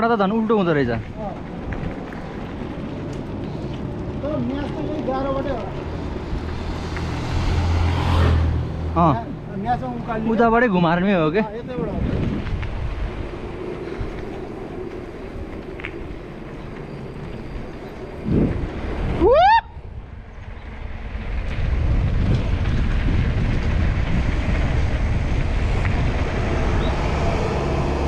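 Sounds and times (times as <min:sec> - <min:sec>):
road rumble: 0:00.0 - 0:28.0
wind buffeting microphone: 0:00.0 - 0:28.0.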